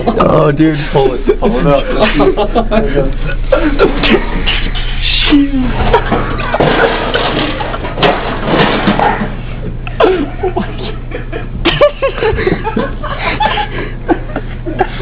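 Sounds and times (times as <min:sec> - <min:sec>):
group laughing: 0:00.0 - 0:06.8, 0:09.8 - 0:15.0
steady low hum: 0:00.0 - 0:15.0.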